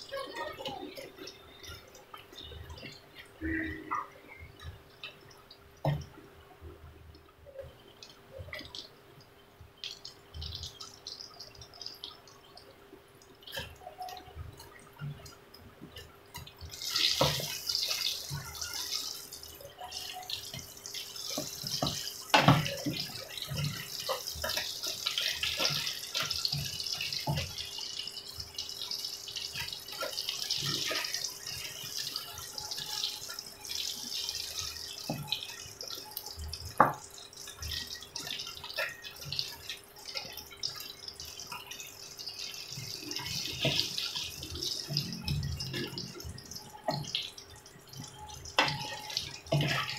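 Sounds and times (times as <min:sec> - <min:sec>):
food deep-frying in hot oil: 0:00.0 - 0:49.9.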